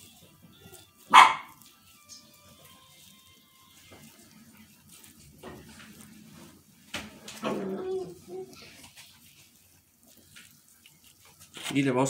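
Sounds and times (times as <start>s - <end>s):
faint background music: 0.0s - 12.0s
kitchen room noise: 0.0s - 12.0s.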